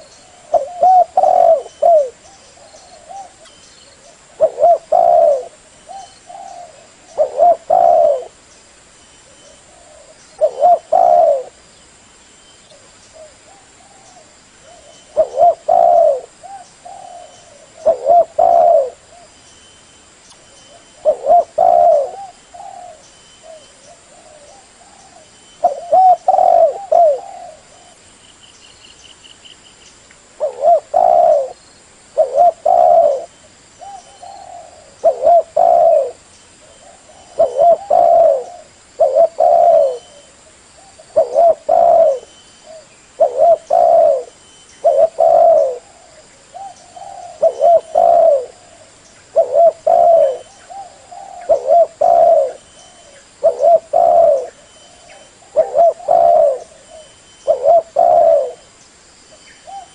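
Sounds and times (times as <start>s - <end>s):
dove cooing: 0.0s - 8.4s, 9.3s - 11.6s, 12.7s - 19.3s, 20.7s - 28.0s, 30.4s - 31.6s, 32.2s - 58.7s, 59.6s - 59.9s.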